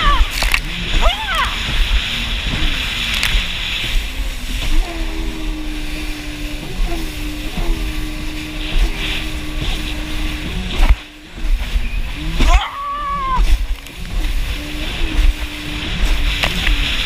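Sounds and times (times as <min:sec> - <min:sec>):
high rising and falling whine: 0:00.0 - 0:17.0
jet ski engine running: 0:00.0 - 0:17.0
water splashing against hull: 0:00.0 - 0:17.0.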